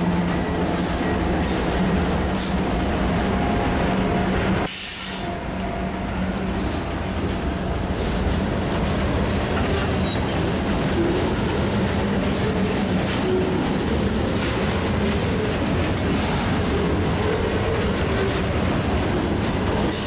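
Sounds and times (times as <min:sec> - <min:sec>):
diesel locomotive: 0:00.0 - 0:20.0
train wheels rumbling on rails: 0:00.0 - 0:20.0.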